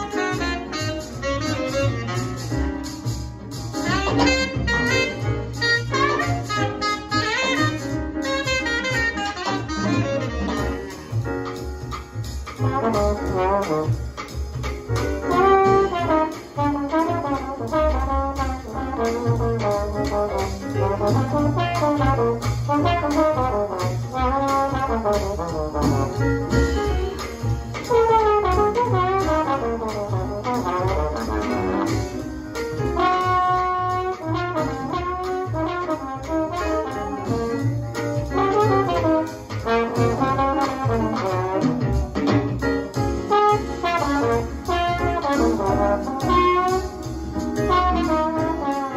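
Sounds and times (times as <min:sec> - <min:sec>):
bass: 0:00.0 - 0:48.9
drums: 0:00.0 - 0:48.9
jazz horns: 0:00.0 - 0:48.9.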